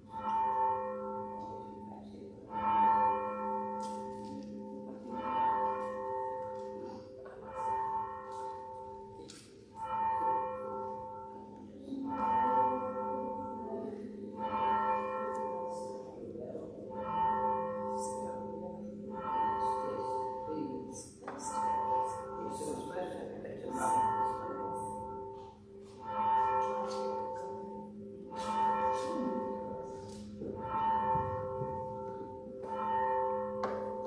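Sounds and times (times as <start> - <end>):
church bell tolling: 0.0 - 34.0.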